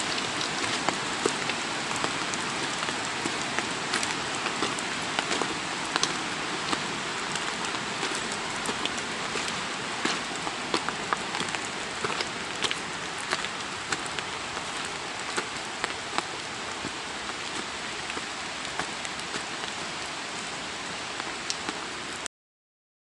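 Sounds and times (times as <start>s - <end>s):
raindrops ticking close by: 0.0s - 22.3s
steady rain hiss: 0.0s - 22.3s.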